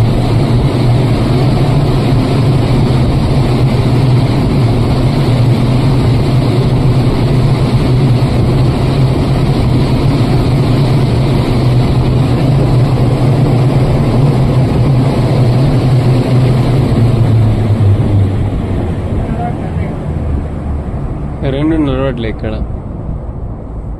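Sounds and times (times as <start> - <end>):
fan humming with rushing air: 0.0 - 23.9.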